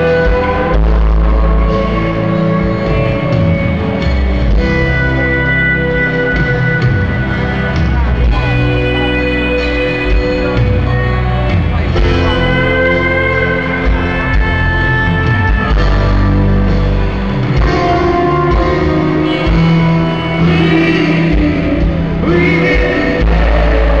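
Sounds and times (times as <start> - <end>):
live rock band playing: 0.0 - 24.0
steady bass: 0.0 - 24.0
sustained guitar tones: 0.0 - 24.0.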